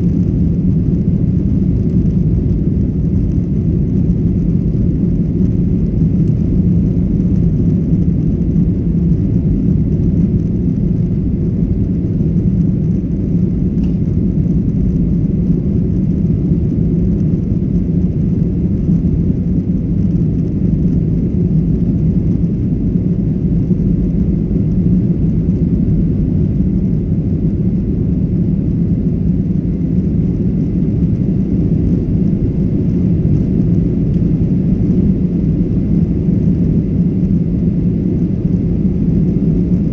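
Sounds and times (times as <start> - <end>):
jet engines and airflow rumble: 0.0 - 39.9.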